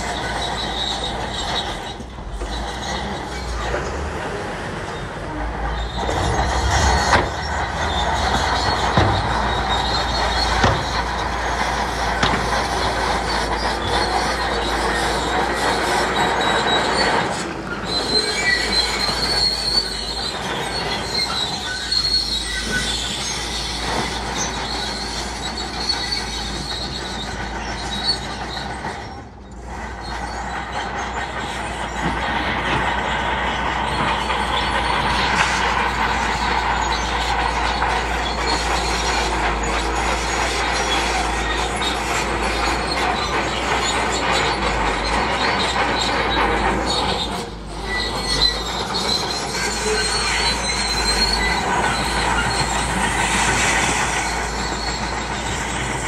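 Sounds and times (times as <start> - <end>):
diesel engine running: 0.0 - 56.0
steel tracks squealing: 0.0 - 56.0.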